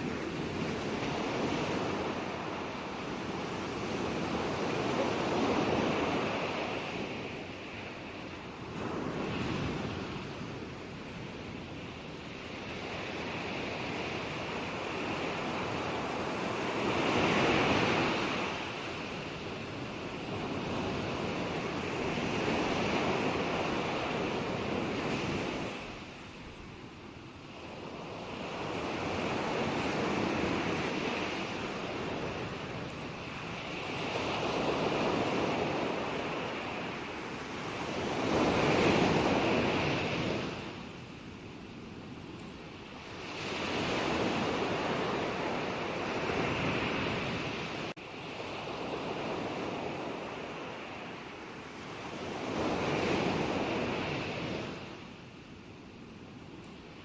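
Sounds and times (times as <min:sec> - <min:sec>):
ocean waves breaking: 0:00.0 - 0:26.6, 0:27.5 - 0:41.1, 0:42.8 - 0:55.3.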